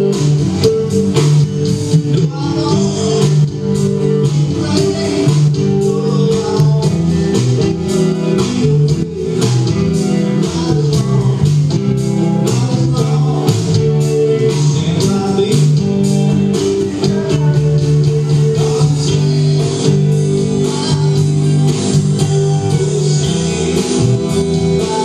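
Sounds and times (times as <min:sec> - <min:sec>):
bass: 0:00.0 - 0:25.0
drums keeping a beat: 0:00.0 - 0:25.0
electric guitar: 0:00.0 - 0:25.0.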